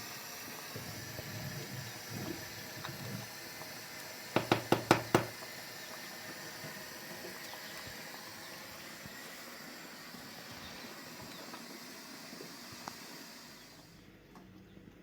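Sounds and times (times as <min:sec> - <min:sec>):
faint steady hiss: 0:00.0 - 0:14.6.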